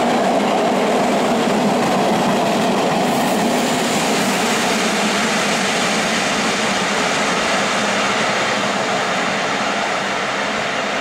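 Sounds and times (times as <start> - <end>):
freight train wheels rushing on rail: 0.0 - 11.0.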